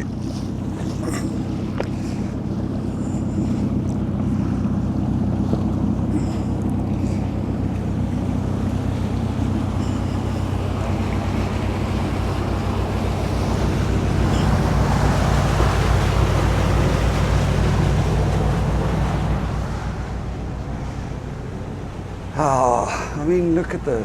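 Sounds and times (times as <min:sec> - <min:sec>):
boat engine running: 0:00.0 - 0:24.0
rushing water: 0:00.0 - 0:24.0
wind: 0:00.0 - 0:24.0.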